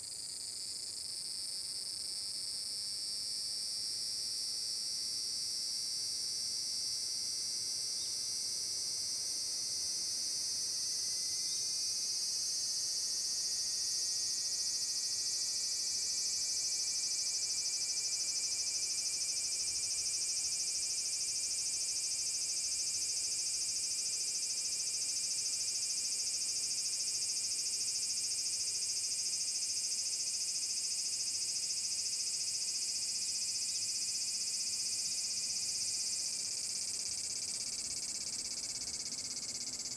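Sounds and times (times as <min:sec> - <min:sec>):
cicadas buzzing drone: 0:03.6 - 0:39.9.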